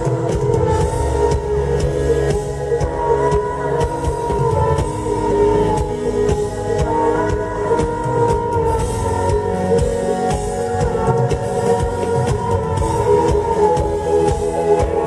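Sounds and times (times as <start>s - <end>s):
drum kit playing: 0.0s - 15.0s
sustained held tones: 0.0s - 15.0s.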